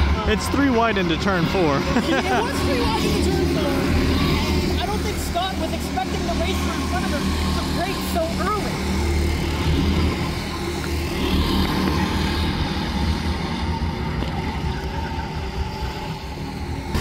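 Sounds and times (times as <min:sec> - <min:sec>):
go-kart engines racing: 0:00.0 - 0:17.0.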